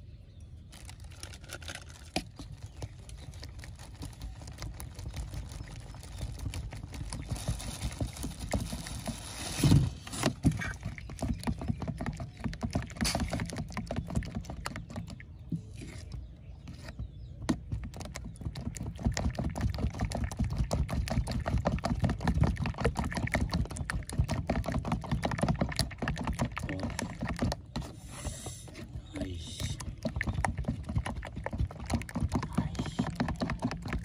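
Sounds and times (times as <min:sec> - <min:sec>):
egg sloshing: 0:01.3 - 0:16.7, 0:17.5 - 0:34.0.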